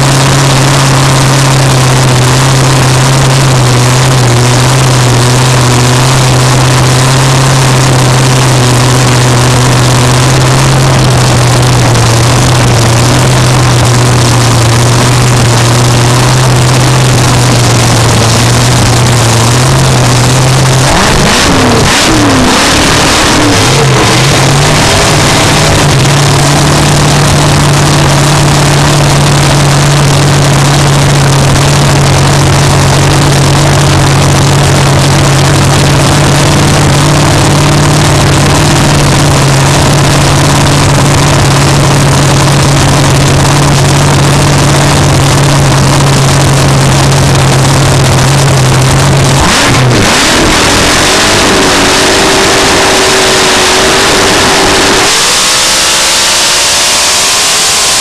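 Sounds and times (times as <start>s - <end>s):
dragster engine idling: 0.0s - 58.0s.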